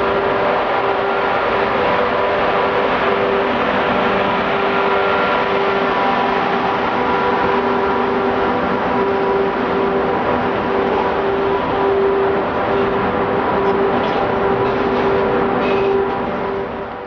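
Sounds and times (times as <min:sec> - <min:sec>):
humming tones: 0:00.0 - 0:17.0
train wheels rumbling on rails: 0:00.0 - 0:17.0.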